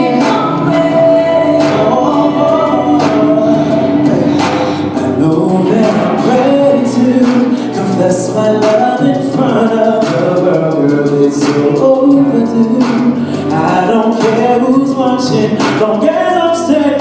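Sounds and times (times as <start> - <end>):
music: 0.0 - 17.0
person singing: 0.0 - 17.0.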